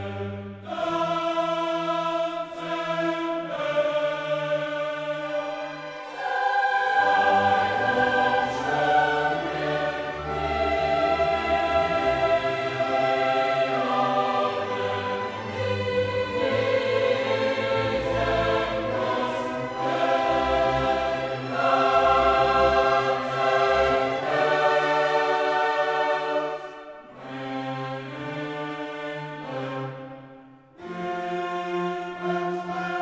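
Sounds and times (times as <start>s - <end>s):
choir singing held chords: 0.0s - 33.0s
orchestra playing: 5.1s - 33.0s.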